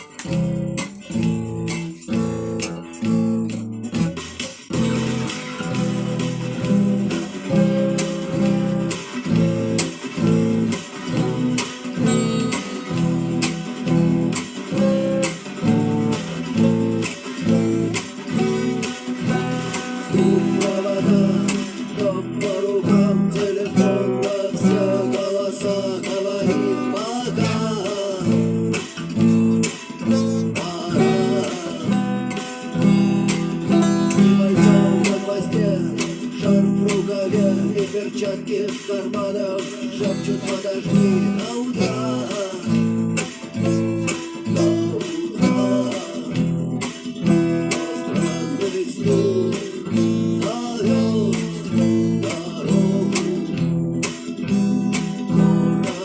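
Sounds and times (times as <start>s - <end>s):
acoustic guitar strumming: 0.0s - 56.0s
person singing: 0.0s - 56.0s.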